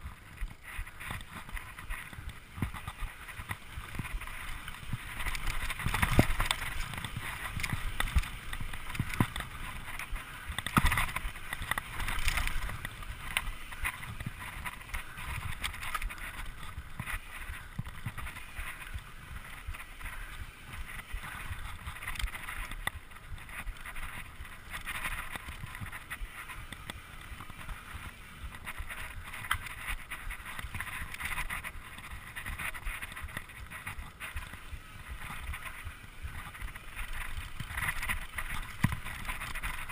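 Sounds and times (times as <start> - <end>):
bike rattling and knocking: 0.0 - 39.9
bike tyres on dirt: 0.0 - 39.9.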